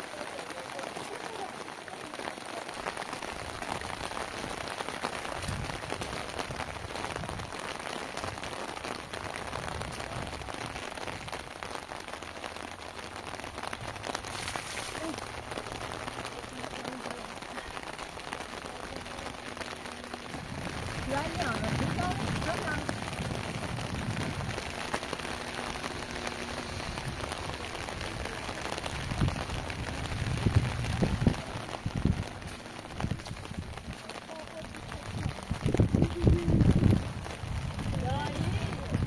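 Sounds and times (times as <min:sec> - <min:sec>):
heavy rain: 0:00.0 - 0:39.0.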